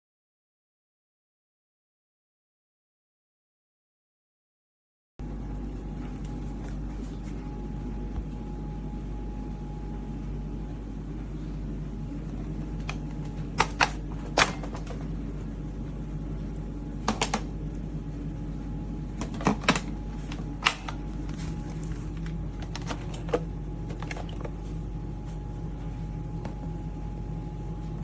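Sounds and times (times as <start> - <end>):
vacuum motor hum: 5.2 - 28.0.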